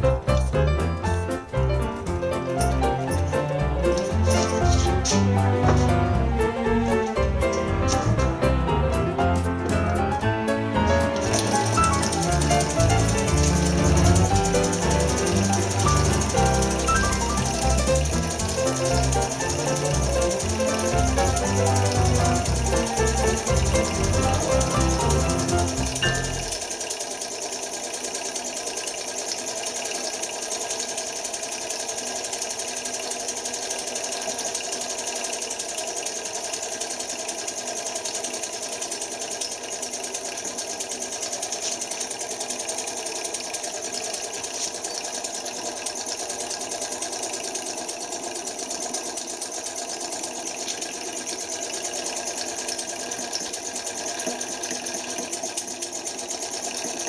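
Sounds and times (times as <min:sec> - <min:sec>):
small engine mechanical clatter: 0:00.0 - 0:57.0.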